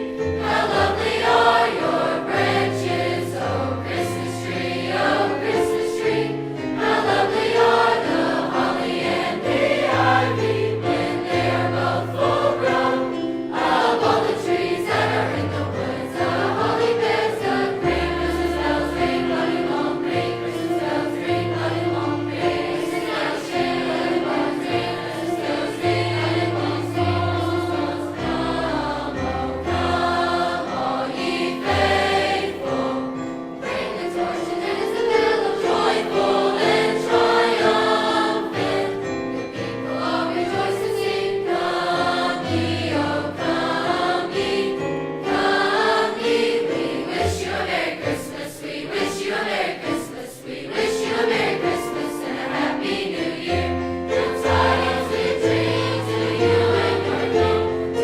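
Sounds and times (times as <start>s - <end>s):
choir singing in parts: 0.0s - 58.0s.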